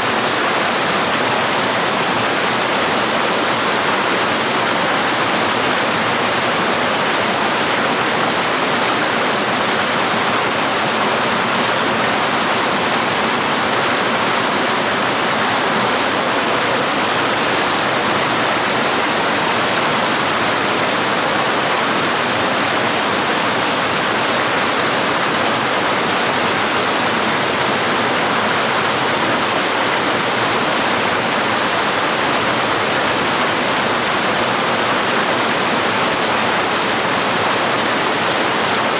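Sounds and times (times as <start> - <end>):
waterfall and stream pouring: 0.0 - 38.9.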